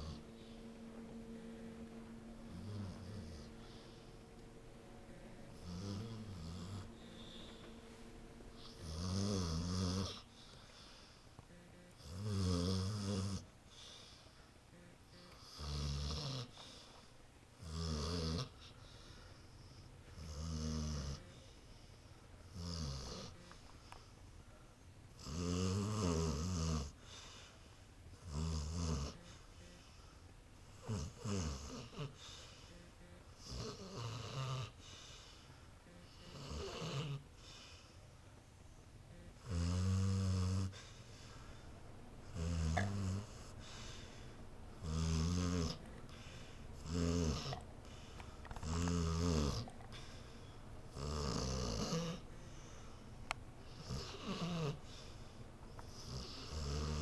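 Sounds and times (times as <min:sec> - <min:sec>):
dog snoring: 0:00.0 - 0:11.1, 0:11.9 - 0:14.2, 0:15.2 - 0:16.9, 0:17.6 - 0:19.0, 0:20.2 - 0:21.6, 0:22.5 - 0:23.6, 0:25.1 - 0:27.5, 0:28.2 - 0:29.9, 0:30.7 - 0:32.7, 0:33.3 - 0:35.4, 0:36.0 - 0:37.9, 0:39.3 - 0:57.0.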